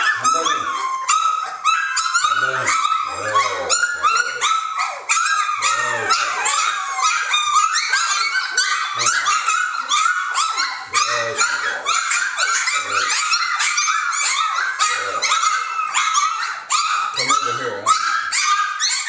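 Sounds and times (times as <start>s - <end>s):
puppies whining and yelping: 0.0s - 19.0s.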